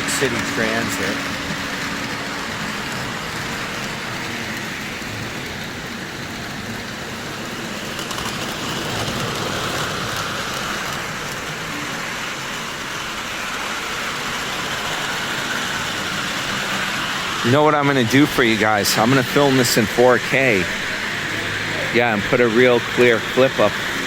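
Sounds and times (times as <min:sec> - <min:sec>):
model trains whirring on metal rail: 0:00.0 - 0:24.0.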